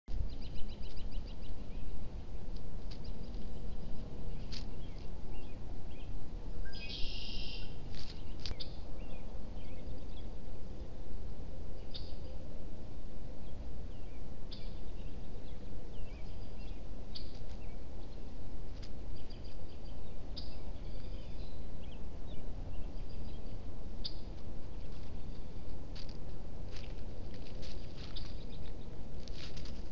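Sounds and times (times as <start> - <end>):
small birds chirping: 0.1 - 10.9, 11.8 - 12.4, 13.4 - 29.9
low background rumble: 0.1 - 29.9.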